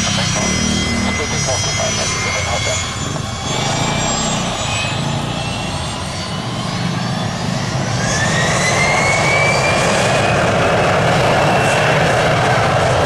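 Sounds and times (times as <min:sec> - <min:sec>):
jet engine whine rising: 0:00.0 - 0:13.0
jet engines roaring: 0:00.0 - 0:13.0.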